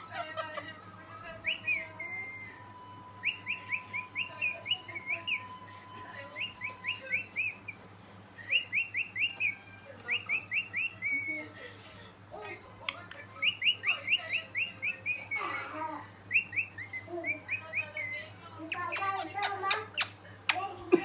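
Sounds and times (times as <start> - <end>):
parrot chirping: 0.0 - 11.6, 12.8 - 20.7.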